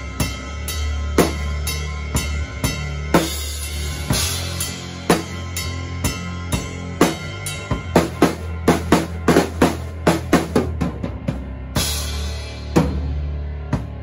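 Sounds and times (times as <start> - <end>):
heavy metal drum groove: 0.0 - 14.0.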